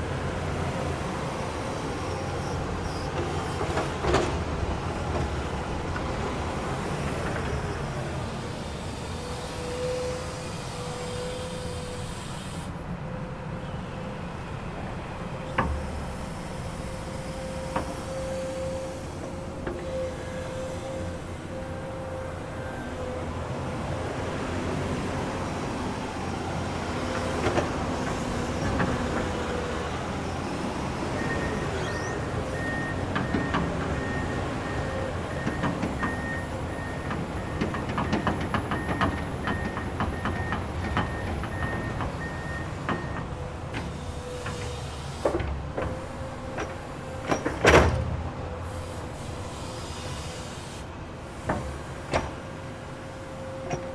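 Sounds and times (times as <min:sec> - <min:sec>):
excavator engine rumbling and whining: 0:00.0 - 0:53.9.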